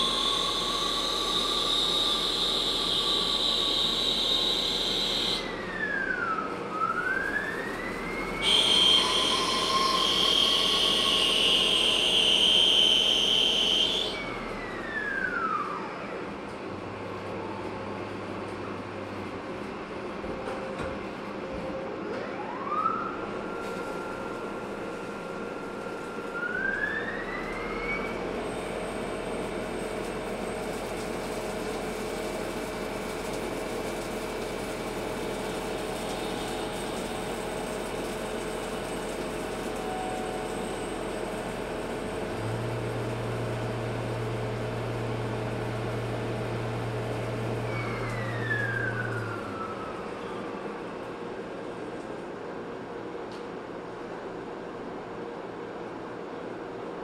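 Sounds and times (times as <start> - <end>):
lathe spindle whine: 0.0 - 19.3, 22.2 - 53.3.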